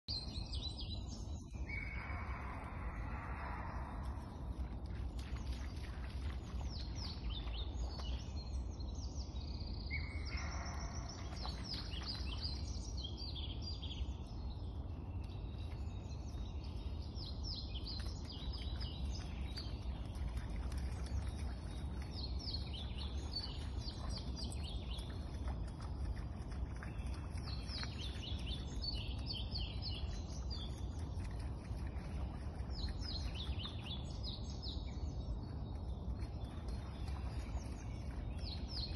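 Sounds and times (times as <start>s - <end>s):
songbirds chirping: 0.0s - 38.9s
low rumble: 0.1s - 38.9s.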